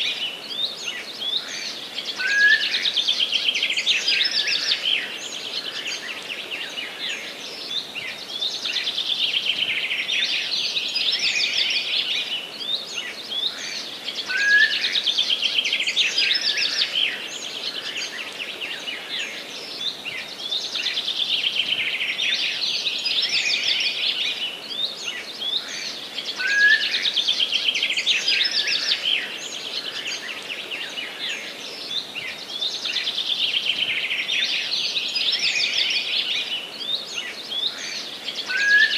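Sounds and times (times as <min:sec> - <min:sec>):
soft steady background hiss: 0:00.0 - 0:38.9
songbirds singing and chirping: 0:00.0 - 0:38.9.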